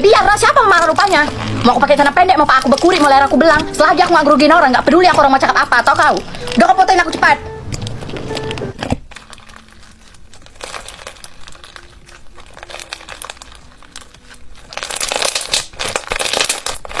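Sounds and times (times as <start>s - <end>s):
sticky slime crackling and popping: 0.0s - 17.0s.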